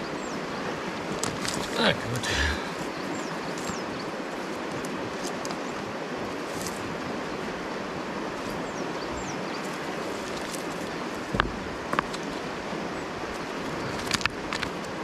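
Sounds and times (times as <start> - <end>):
river flowing over stones: 0.0 - 15.0.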